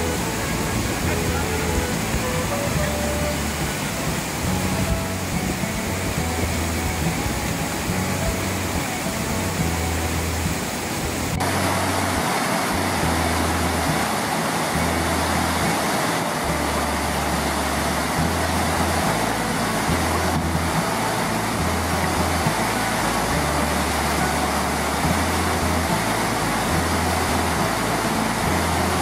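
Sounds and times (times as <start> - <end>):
fast river water rushing: 0.0 - 29.0.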